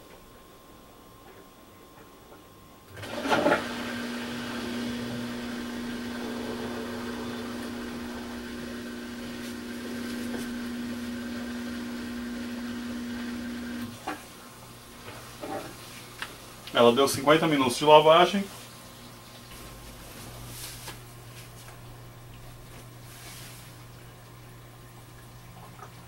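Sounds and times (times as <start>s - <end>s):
washing machine motor humming: 0.0s - 26.0s.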